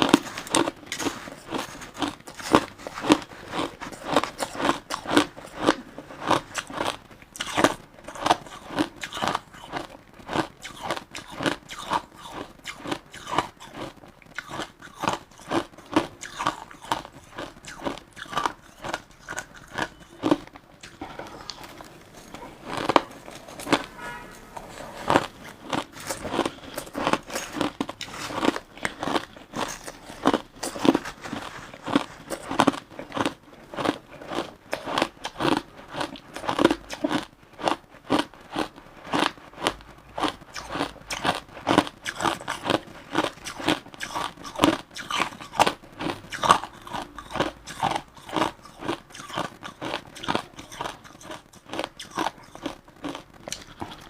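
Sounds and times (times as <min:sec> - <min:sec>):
chewing crushed ice: 0:00.0 - 0:54.0.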